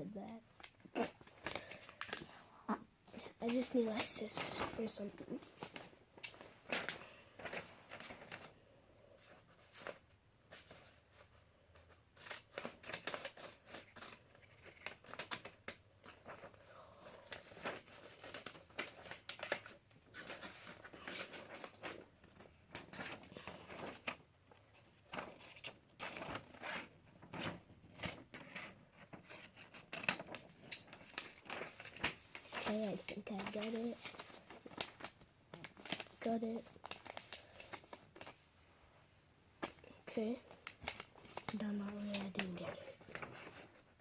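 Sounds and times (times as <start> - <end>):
paper rustling and crinkling: 0.5 - 2.5, 3.1 - 38.4, 39.6 - 44.0.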